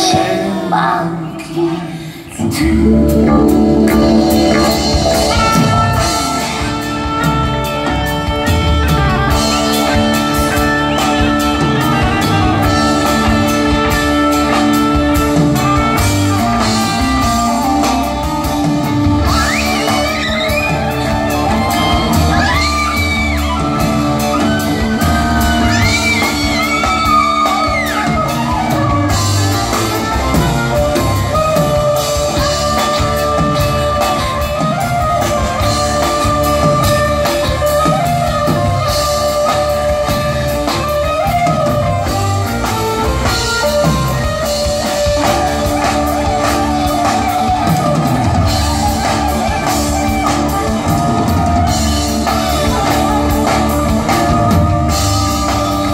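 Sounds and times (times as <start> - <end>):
drums: 0.0 - 55.9
keyboard: 0.0 - 55.9
live band playing: 0.0 - 55.9
double bass: 2.4 - 55.9.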